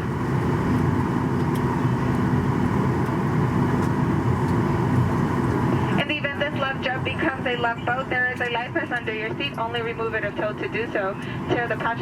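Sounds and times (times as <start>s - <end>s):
airplane cabin rumble and hiss: 0.0s - 12.0s
faint steady hum: 0.0s - 12.0s.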